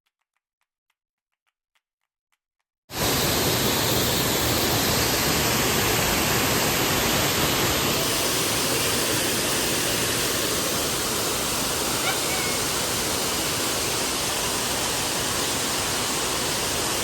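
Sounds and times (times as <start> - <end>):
waterfall rushing: 2.9 - 17.0.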